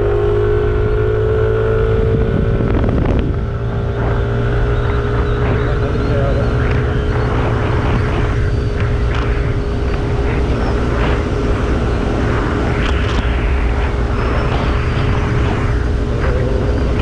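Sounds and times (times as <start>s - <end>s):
scooter engine droning: 0.0s - 17.0s
wind buffeting microphone: 0.0s - 17.0s.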